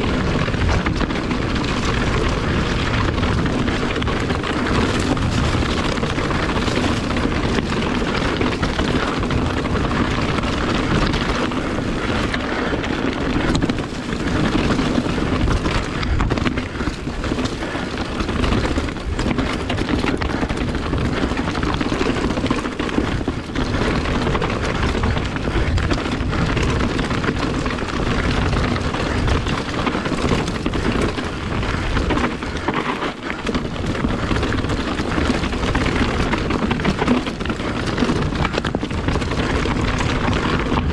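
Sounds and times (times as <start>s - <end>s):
bike knocks and rattles: 0.0s - 40.9s
bike tyres rolling on rocks: 0.0s - 40.9s
wind rushing over microphone: 0.0s - 40.9s.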